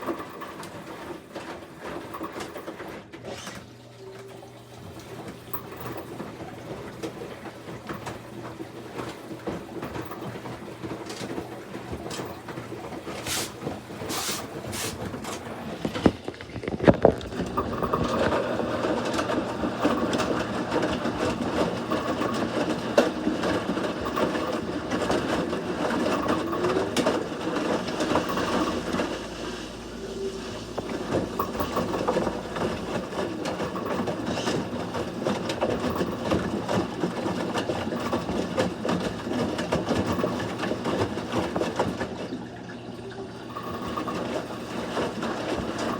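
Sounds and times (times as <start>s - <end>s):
washing machine grinding rattle: 0.0s - 45.9s.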